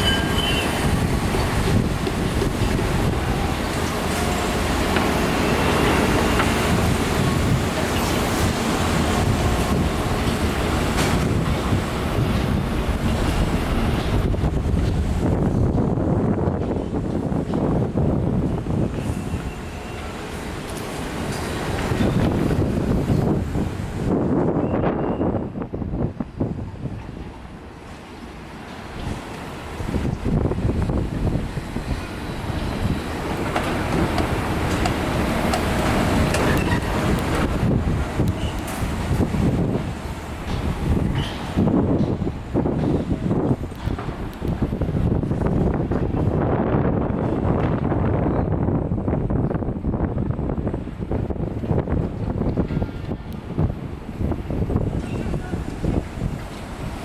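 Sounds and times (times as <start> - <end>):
heavy mechanical rumble: 0.0 - 27.4, 29.0 - 57.0
wind buffeting microphone: 0.0 - 57.0.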